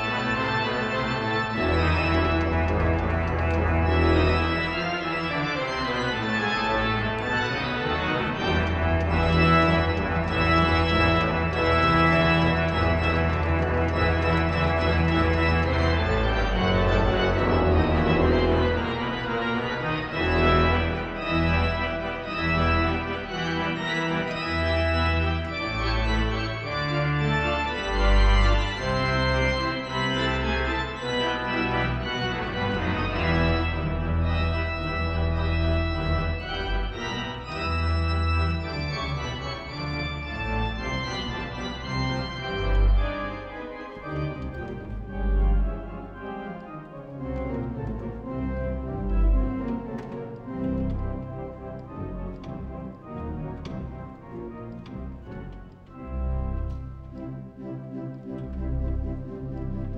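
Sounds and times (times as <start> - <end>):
deep organ pedal bass notes: 0.0 - 59.9
pipe organ playing quick notes: 0.0 - 59.9.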